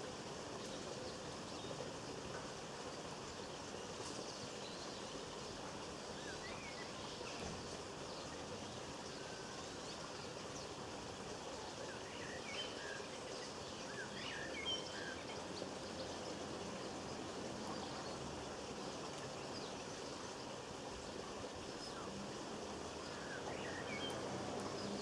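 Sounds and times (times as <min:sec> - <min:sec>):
steady background hiss: 0:00.0 - 0:25.0
small birds chirping: 0:00.6 - 0:25.0.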